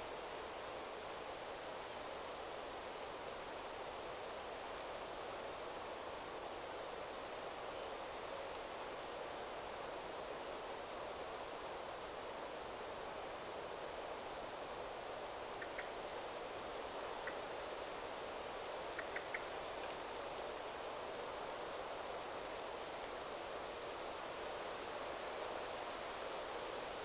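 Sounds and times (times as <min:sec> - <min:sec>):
wind rustling through trees: 0:00.0 - 0:27.0.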